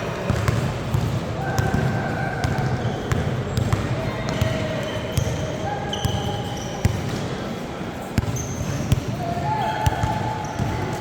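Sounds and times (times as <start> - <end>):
voices in a hall: 0.0 - 11.0
basketball bouncing on court: 0.1 - 7.4, 8.2 - 11.0.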